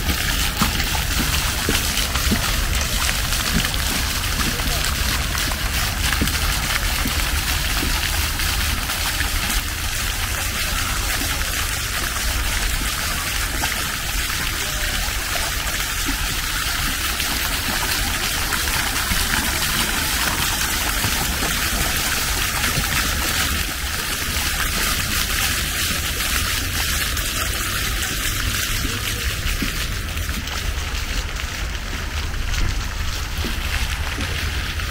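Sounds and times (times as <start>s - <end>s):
fountain water splashing: 0.0s - 34.9s.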